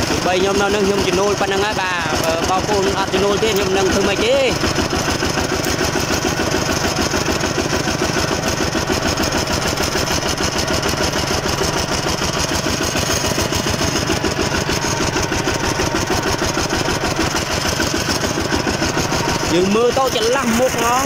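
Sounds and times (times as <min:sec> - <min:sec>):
diesel tractor engine chugging: 0:00.0 - 0:21.0.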